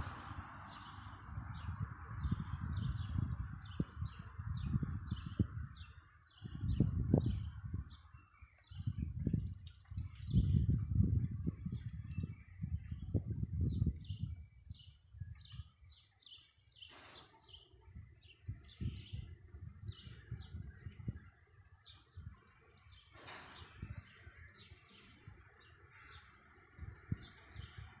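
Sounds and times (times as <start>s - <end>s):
low rumbling on microphone: 0.0s - 28.0s
small birds chirping: 0.0s - 28.0s.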